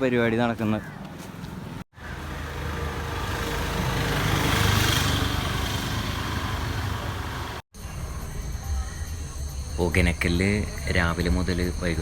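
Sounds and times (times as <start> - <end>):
vehicle engine rumbling: 0.8 - 12.0.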